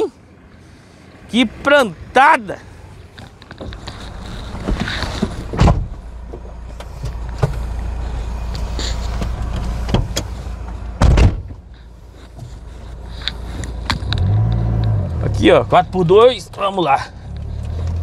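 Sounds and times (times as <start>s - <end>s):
engine and tyres rumbling: 0.0s - 18.0s.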